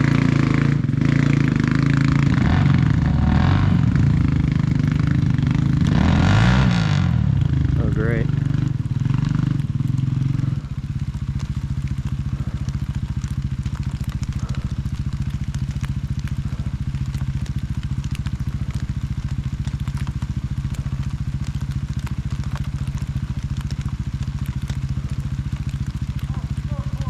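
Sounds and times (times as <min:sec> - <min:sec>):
motorcycle engine revving and idling: 0:00.0 - 0:27.0
rain ticking: 0:00.0 - 0:27.0.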